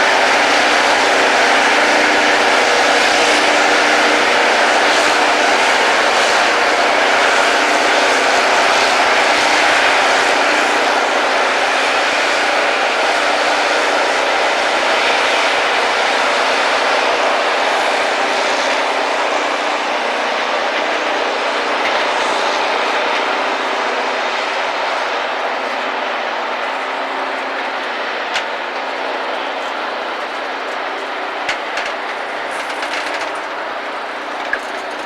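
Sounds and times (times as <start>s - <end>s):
grinding wheels on rail: 0.0s - 35.0s.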